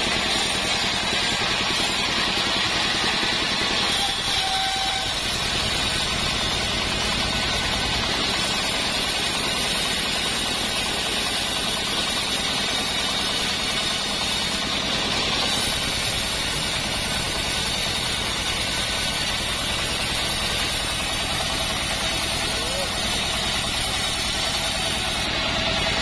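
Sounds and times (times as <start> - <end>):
band sawmill cutting wood: 0.0 - 26.0.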